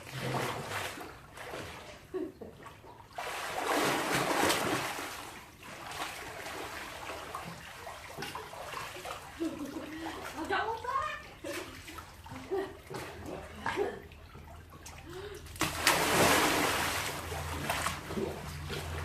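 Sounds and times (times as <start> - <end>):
pool water splashing: 0.0 - 19.0.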